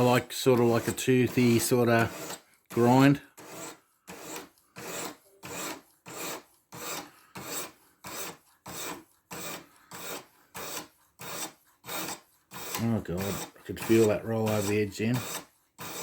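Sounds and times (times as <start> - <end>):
stone scraping knife edge: 0.6 - 16.0.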